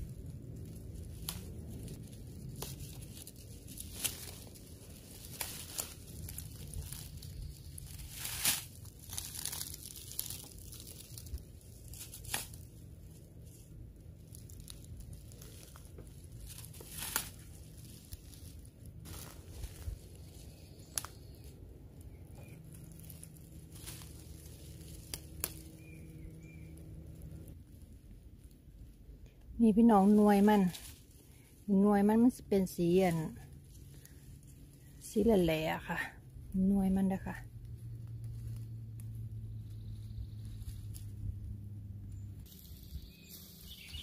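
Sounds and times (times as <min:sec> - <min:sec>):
low steady rumble: 0:00.0 - 0:44.0
vines rustling and crinkling: 0:00.0 - 0:44.0.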